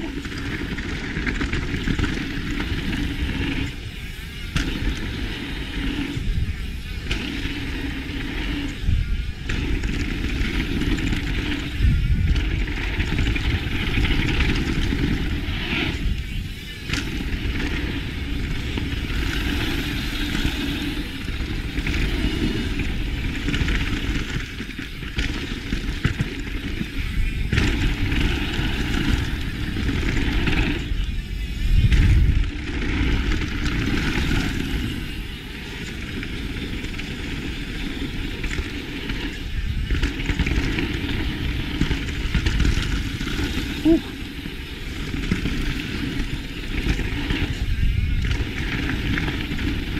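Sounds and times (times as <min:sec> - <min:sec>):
bike tyres rolling over dirt: 0:00.0 - 0:49.9
wind rushing over microphone: 0:00.0 - 0:49.9.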